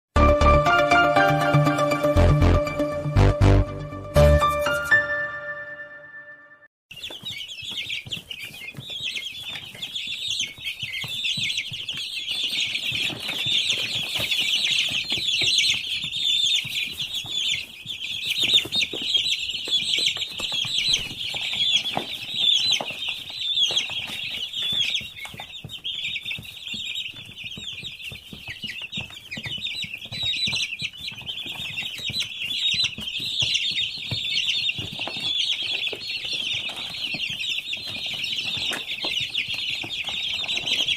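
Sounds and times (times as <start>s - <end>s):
chicks peeping: 0.3s - 40.9s.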